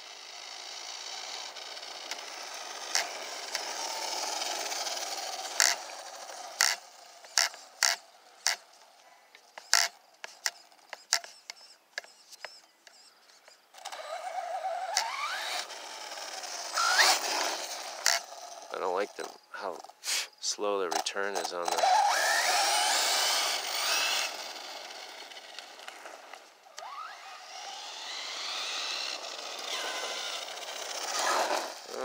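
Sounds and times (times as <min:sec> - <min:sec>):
electric motor whining: 0:00.0 - 0:08.6, 0:10.6 - 0:19.9, 0:20.8 - 0:32.0.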